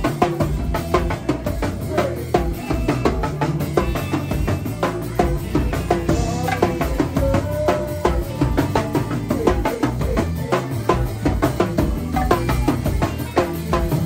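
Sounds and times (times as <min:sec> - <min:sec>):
go-go band playing: 0:00.0 - 0:14.0.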